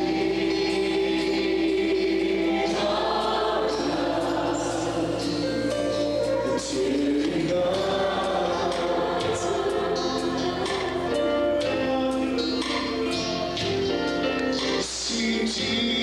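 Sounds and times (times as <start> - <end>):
church choir singing: 0.0 - 16.0
organ: 0.0 - 16.0.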